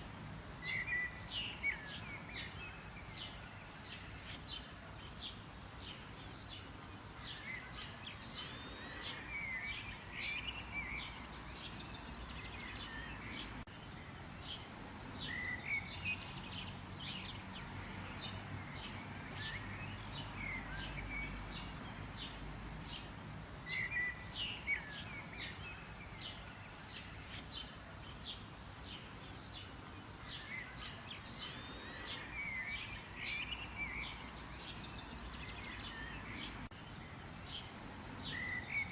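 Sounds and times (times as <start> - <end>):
birds chirping and twittering: 0.0 - 38.9
recurring bird song phrase: 0.6 - 38.9.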